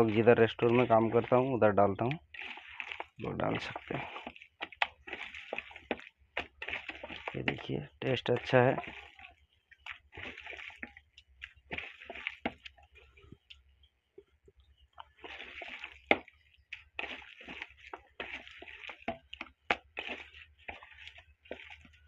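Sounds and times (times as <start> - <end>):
hand squishing wet batter: 0.0 - 22.0.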